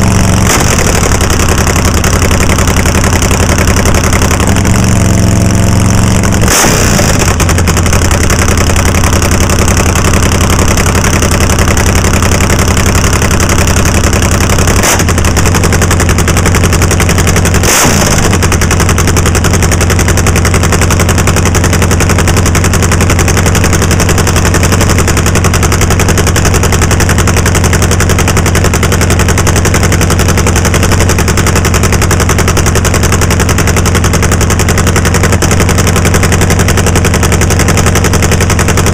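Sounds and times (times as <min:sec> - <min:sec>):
drag racing engine crackling: 0:00.0 - 0:38.9.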